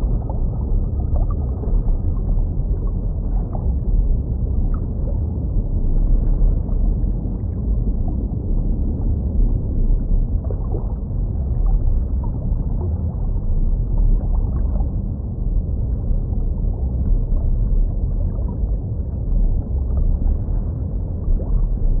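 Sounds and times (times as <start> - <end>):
low underwater rumble: 0.0 - 22.0.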